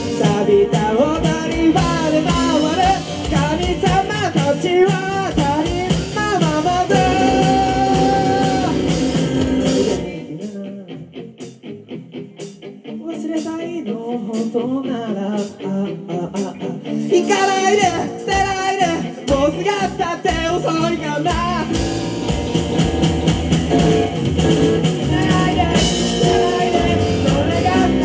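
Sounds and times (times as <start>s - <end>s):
man singing: 0.0s - 11.3s, 12.9s - 22.0s, 24.7s - 28.0s
live rock band playing: 0.0s - 28.0s.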